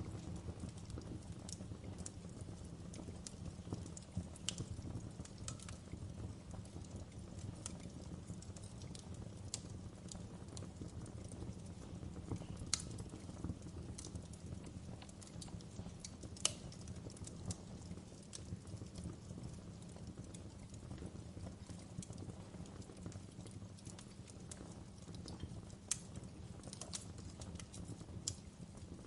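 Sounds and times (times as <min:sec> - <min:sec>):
low rush of flame: 0:00.0 - 0:29.0
wood fire crackling: 0:00.0 - 0:29.0.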